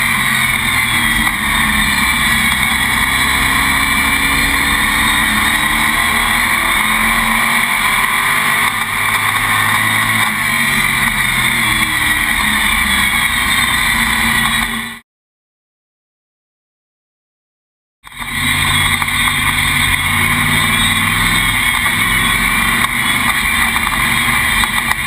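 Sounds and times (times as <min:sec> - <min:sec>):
race car engine droning: 0:00.0 - 0:15.0, 0:18.1 - 0:25.0.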